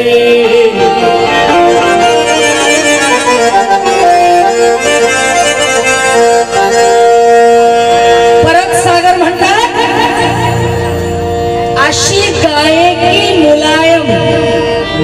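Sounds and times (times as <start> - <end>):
harmonium playing: 0.0 - 15.0.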